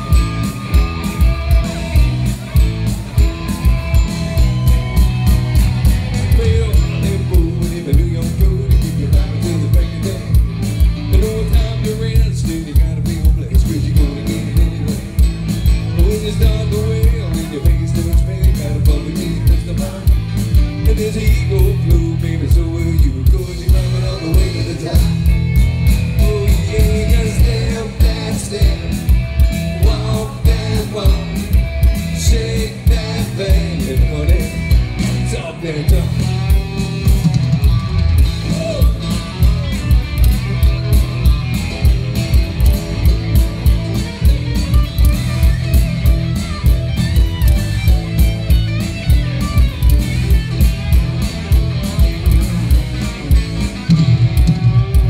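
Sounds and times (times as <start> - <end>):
country band playing live: 0.0 - 55.0
drums with steady beat: 0.0 - 55.0
electric guitar: 0.0 - 55.0.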